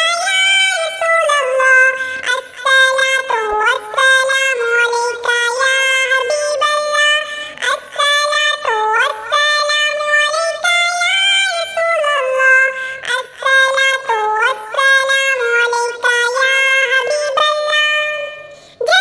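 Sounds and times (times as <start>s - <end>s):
synthetic singing voice: 0.0s - 19.0s.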